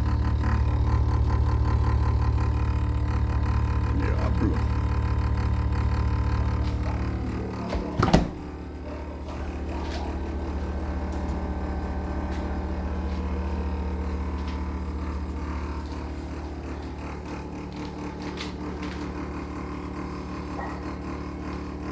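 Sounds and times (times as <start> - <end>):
appliance electrical hum: 0.0 - 21.9.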